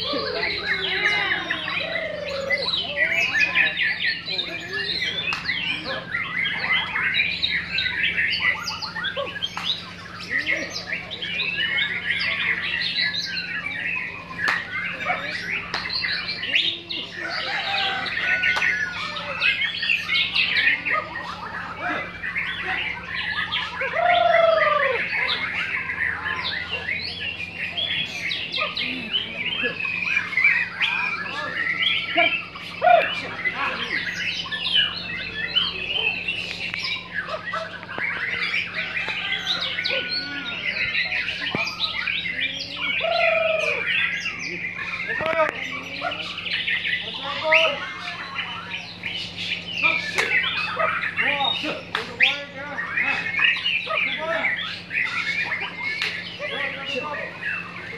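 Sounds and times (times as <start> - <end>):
chorus of birds singing: 0.0 - 57.9.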